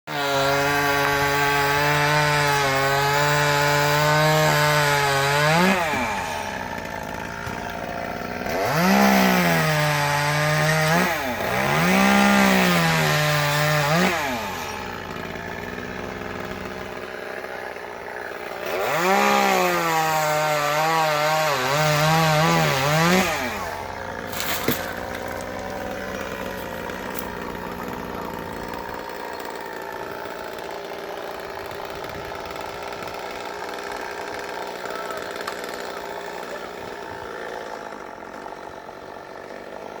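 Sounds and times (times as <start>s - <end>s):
chainsaw revving and cutting wood: 0.0s - 40.0s.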